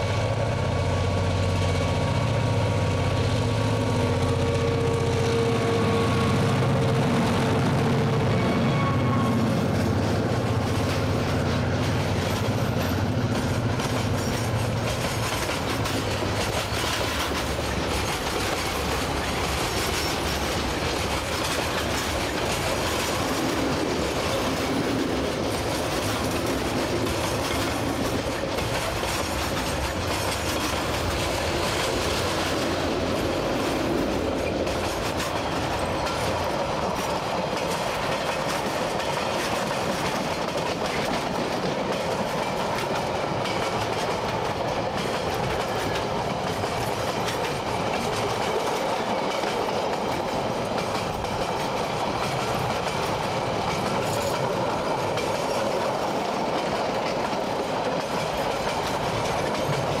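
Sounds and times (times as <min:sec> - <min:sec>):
train wheels clacking over rail joints: 0:08.6 - 1:00.0.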